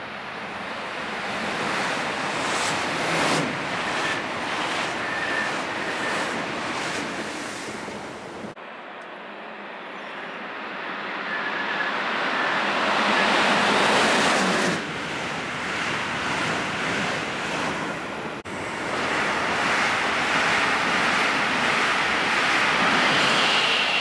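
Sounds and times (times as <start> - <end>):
electric train passing below: 0.0 - 24.0.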